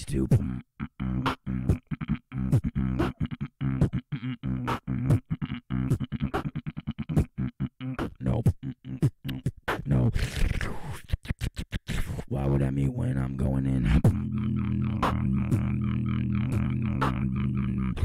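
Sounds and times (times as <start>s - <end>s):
person beatboxing: 0.0s - 18.0s.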